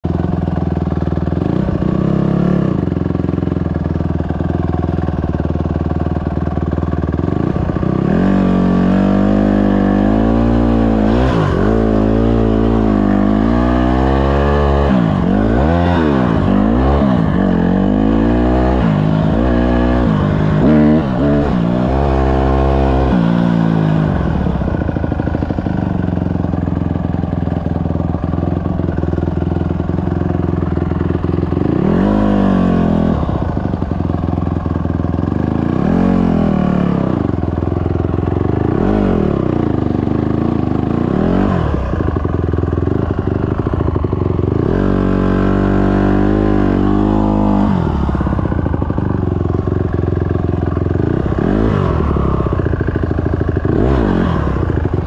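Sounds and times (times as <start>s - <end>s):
dirt bike engine revving: 0.2s - 55.0s.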